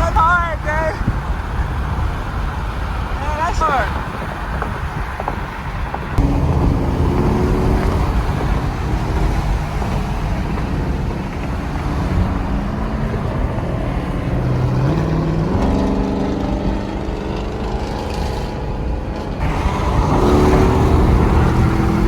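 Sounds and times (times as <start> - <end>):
car engine running: 0.0 - 22.0
road noise: 0.0 - 22.0.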